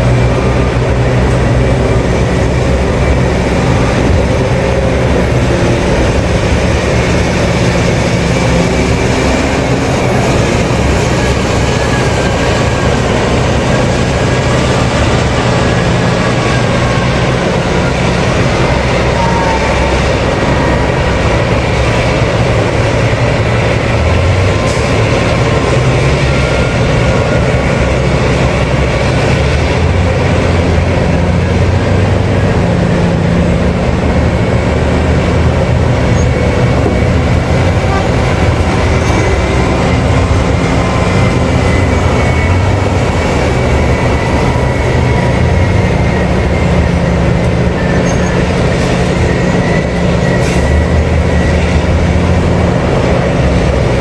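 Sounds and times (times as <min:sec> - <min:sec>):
heavy machinery engine drone: 0:00.0 - 0:54.0.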